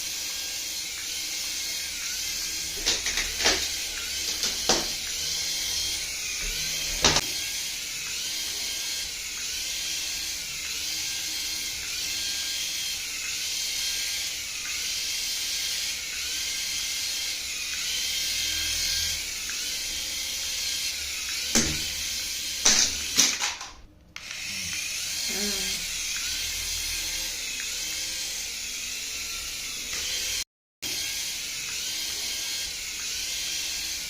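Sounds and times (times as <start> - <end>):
small electric motor whirring: 0.0 - 34.0.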